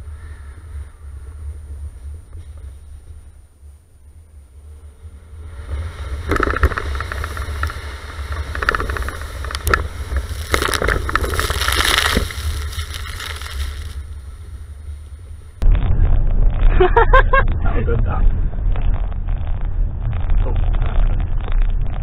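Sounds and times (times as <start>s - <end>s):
tyres and engine rumble: 0.0s - 22.0s.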